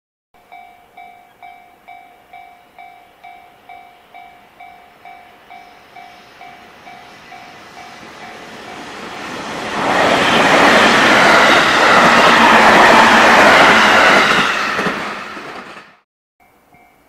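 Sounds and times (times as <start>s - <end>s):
electric train approaching: 0.4s - 16.0s.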